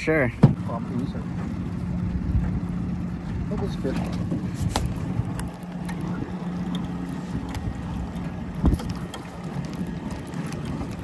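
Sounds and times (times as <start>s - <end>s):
boat motor humming: 0.0s - 11.0s
wind buffeting microphone: 0.4s - 11.0s.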